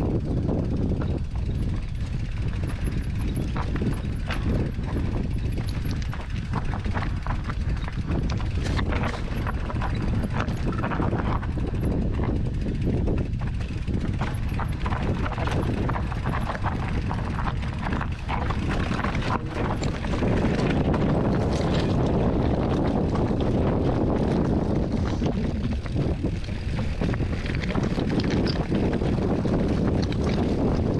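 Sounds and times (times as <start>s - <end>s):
bike knocking and rattling: 0.0s - 30.9s
wind rumble on microphone: 0.0s - 30.9s
tyres crunching over loose rock: 0.4s - 30.9s.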